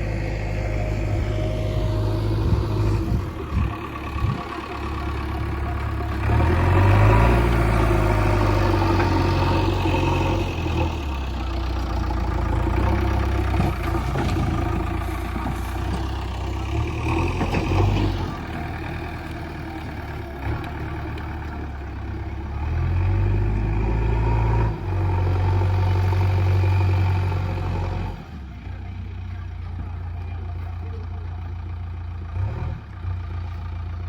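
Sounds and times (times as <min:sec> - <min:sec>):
diesel engine revving: 0:00.0 - 0:33.7.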